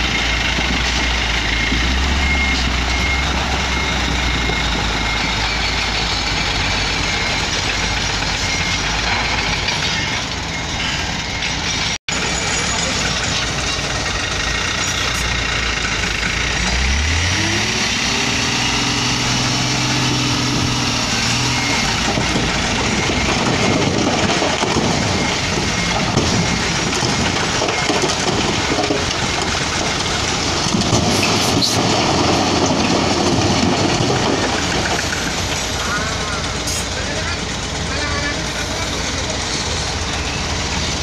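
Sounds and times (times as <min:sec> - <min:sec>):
diesel truck engine revving: 0:00.0 - 0:41.0.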